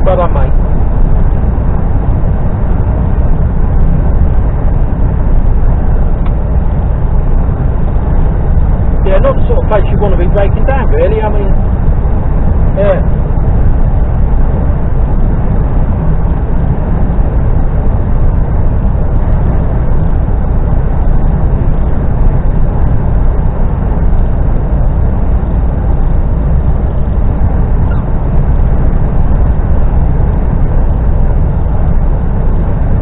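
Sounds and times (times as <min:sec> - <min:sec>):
lorry engine rumble in cab: 0:00.0 - 0:33.0.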